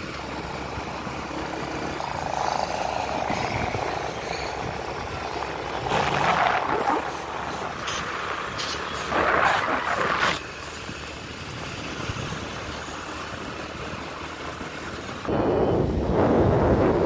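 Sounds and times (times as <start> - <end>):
vehicle road noise: 0.0 - 17.0
wind rushing over microphone: 1.8 - 17.0.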